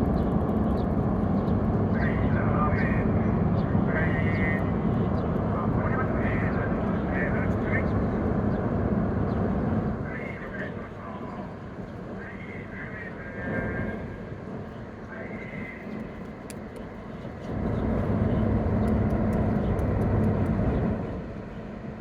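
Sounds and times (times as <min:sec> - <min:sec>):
ferry engine rumble: 0:00.0 - 0:22.0.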